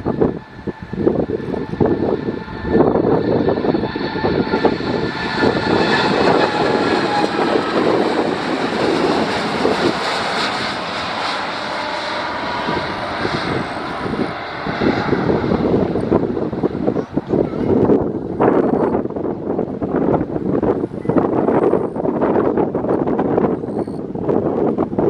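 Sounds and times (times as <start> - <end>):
jet engine roar with whining tones: 0.0 - 25.0
wind buffeting microphone: 0.0 - 25.0.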